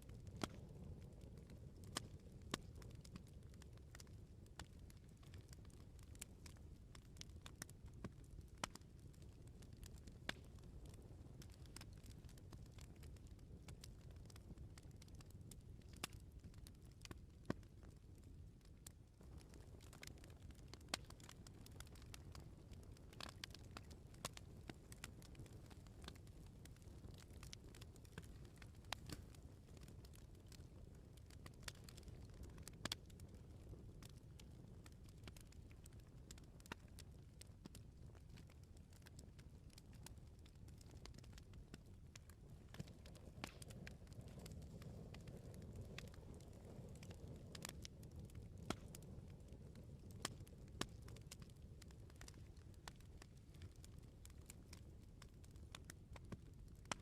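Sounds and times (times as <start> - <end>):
fire popping and snapping: 0.1 - 57.0
wood fire crackling: 0.1 - 57.0.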